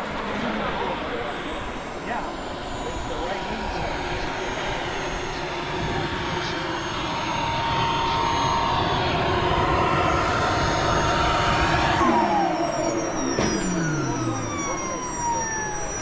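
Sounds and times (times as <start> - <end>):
model jet turbine whining: 0.0 - 16.0.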